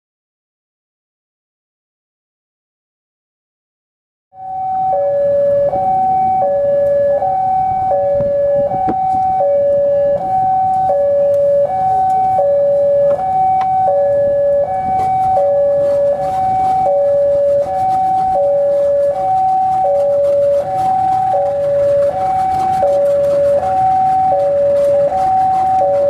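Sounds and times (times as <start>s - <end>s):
level crossing two-tone alarm: 4.4s - 26.0s.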